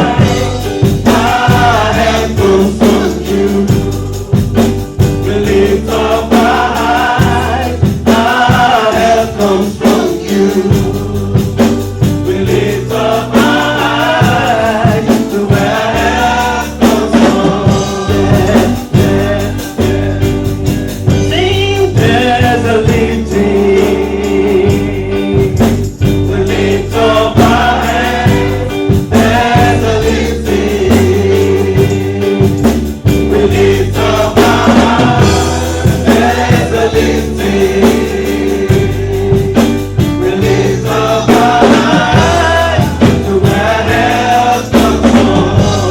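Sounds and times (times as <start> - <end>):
band with bass and percussion: 0.0 - 45.9
choir singing gospel music: 0.0 - 45.9.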